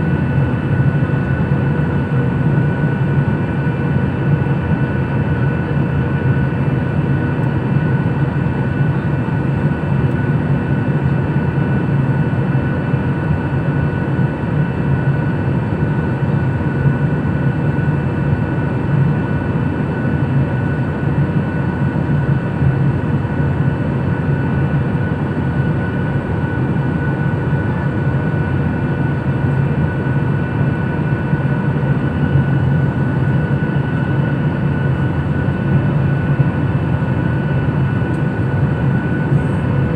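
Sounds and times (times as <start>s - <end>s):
airliner engine drone: 0.0s - 39.9s.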